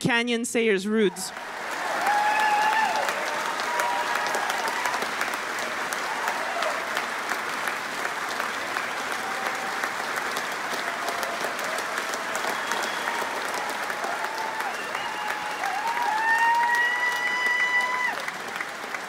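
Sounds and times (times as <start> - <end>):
audience applauding: 1.3 - 19.0.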